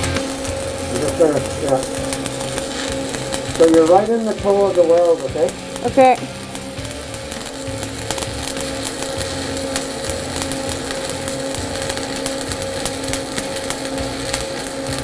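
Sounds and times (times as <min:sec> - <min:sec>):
steady low hum: 0:00.0 - 0:15.0
welding arc crackling: 0:00.0 - 0:15.0.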